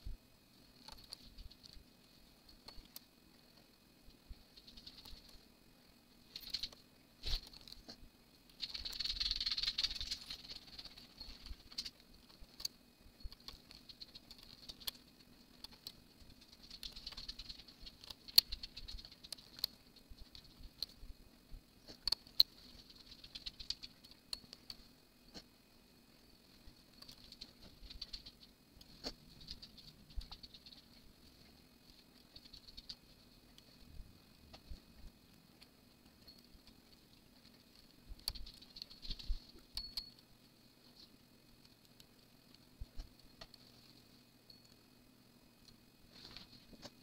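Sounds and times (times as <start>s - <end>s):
faint low hum: 0.0s - 47.0s.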